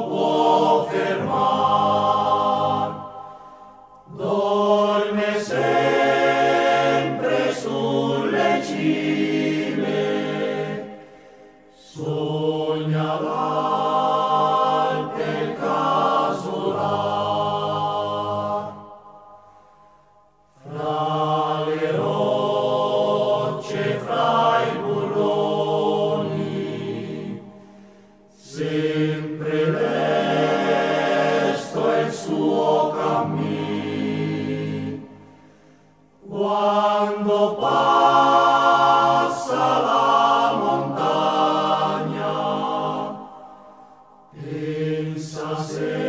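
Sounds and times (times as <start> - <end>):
chant-like sung vocals: 0.0 - 46.0.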